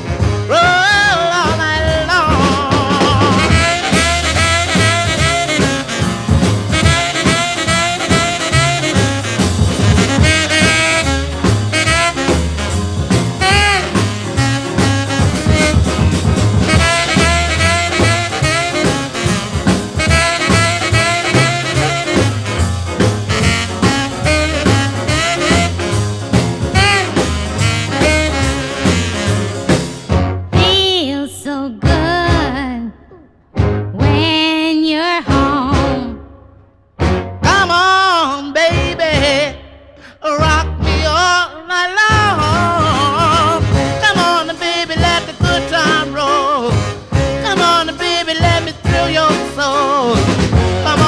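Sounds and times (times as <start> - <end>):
instrumental rhythm and blues music: 0.0 - 51.0.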